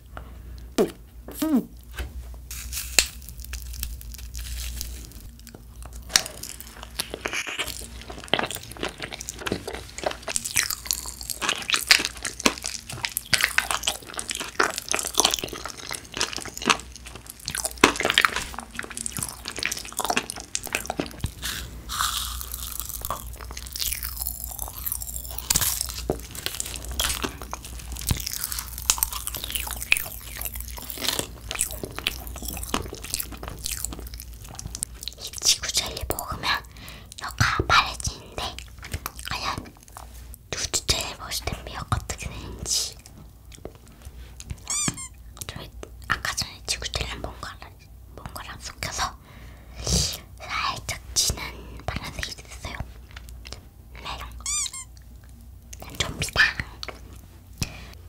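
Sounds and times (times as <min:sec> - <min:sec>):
chewing gummy candy: 0:02.5 - 0:49.2, 0:49.8 - 0:58.0.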